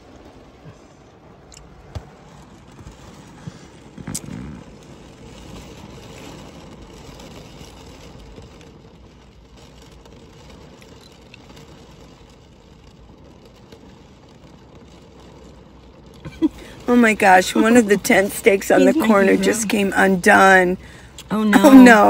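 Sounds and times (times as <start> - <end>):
rain on a van: 0.0 - 22.0
storm wind against a van: 0.0 - 22.0.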